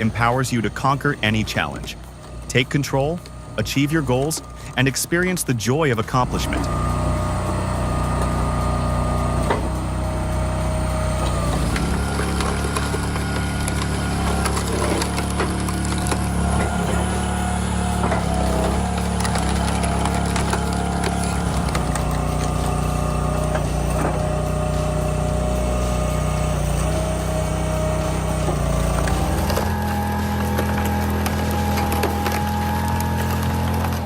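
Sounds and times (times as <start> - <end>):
machine engine running: 0.0 - 34.0.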